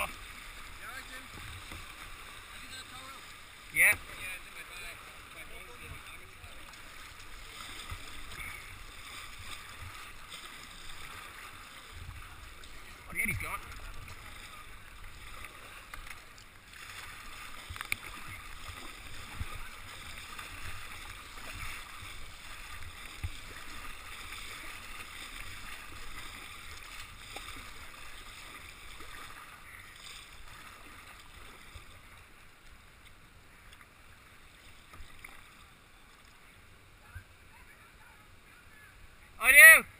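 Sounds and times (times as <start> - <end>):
paddle strokes splashing: 0.0 - 37.3
water rushing around kayak hull: 0.0 - 39.9.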